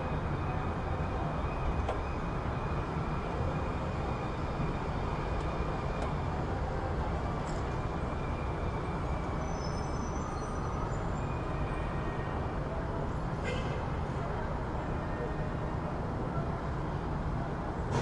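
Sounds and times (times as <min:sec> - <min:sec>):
low rumble of traffic: 0:00.0 - 0:18.0.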